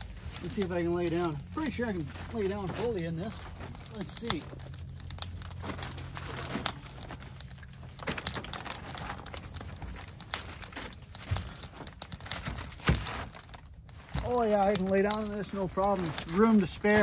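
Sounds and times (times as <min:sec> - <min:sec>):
low hum: 0:00.0 - 0:17.0
nylon fabric rustling: 0:00.0 - 0:17.0.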